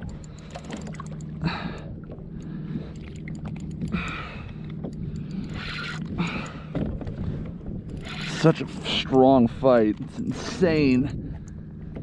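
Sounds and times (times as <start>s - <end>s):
fishing reel clicking: 0.0s - 4.3s, 4.9s - 6.6s, 7.8s - 11.6s
steady low hum: 0.0s - 12.0s.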